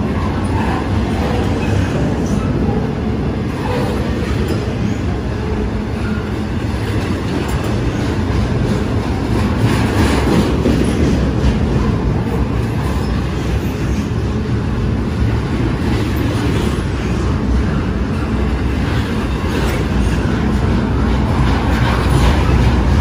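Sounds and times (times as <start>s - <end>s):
freight train rumbling on rails: 0.0s - 23.0s.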